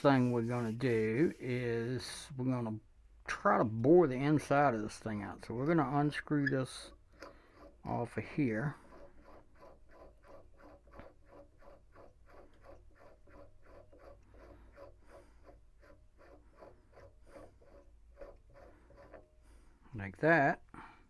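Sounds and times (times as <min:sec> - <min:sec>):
scratchy rubbing of threads: 0:00.0 - 0:02.3, 0:04.1 - 0:20.0.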